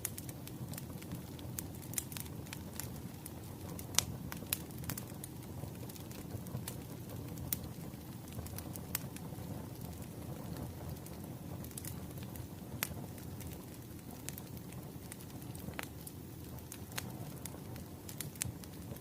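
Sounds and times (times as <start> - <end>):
firewood crackling and popping: 0.0 - 19.0
low rumble of fire: 0.0 - 19.0.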